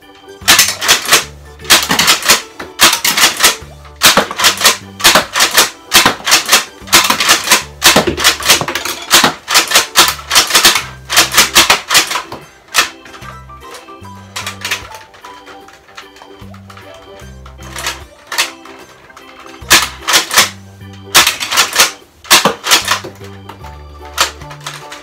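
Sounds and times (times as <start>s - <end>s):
toy blaster plastic clacks: 0.4s - 23.5s, 24.1s - 25.0s.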